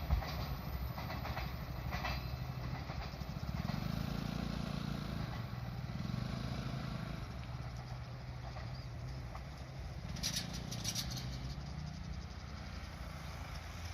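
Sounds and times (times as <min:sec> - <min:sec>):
freight train running: 0:00.0 - 0:13.9.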